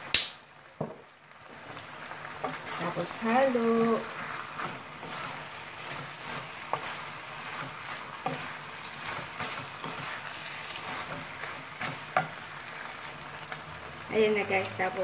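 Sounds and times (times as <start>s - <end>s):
food sizzling in pan: 0.0s - 15.0s
spatula stirring food: 0.6s - 15.0s.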